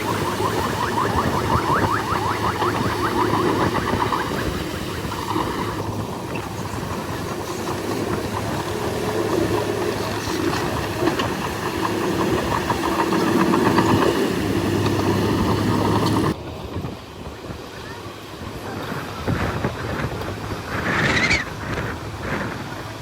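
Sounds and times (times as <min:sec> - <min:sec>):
heavy diesel engine under load: 0:00.0 - 0:23.0.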